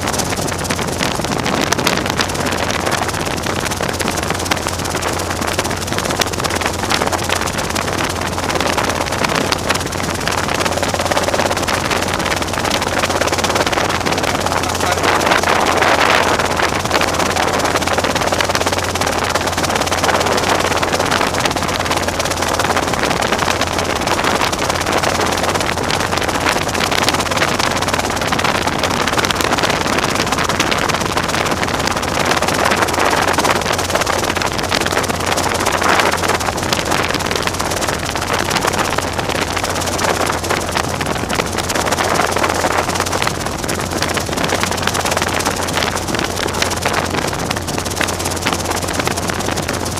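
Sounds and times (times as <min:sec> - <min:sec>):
helicopter engine and rotors droning: 0:00.0 - 0:49.9
rushing wind: 0:00.0 - 0:49.9.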